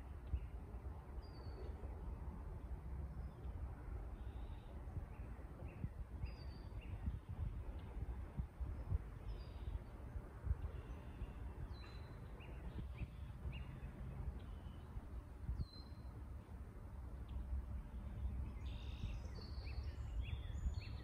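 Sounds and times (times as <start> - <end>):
low outdoor rumble: 0.0 - 21.0
songbirds chirping: 0.0 - 21.0.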